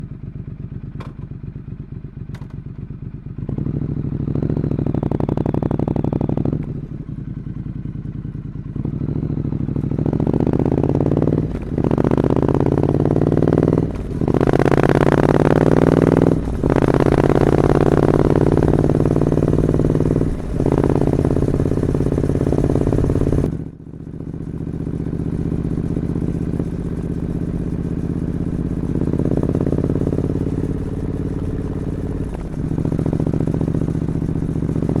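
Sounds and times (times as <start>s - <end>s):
motorcycle engine revving: 2.0s - 35.0s.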